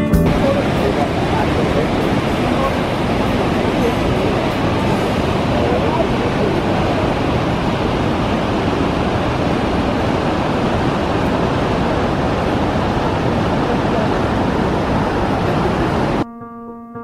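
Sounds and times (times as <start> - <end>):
waterfall and stream rushing: 0.0 - 16.2.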